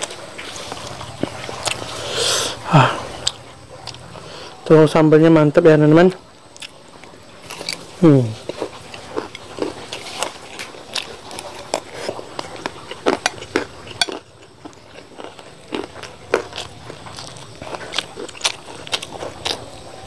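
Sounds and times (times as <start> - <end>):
chewing and crunching food: 0.0 - 5.1, 6.0 - 20.0.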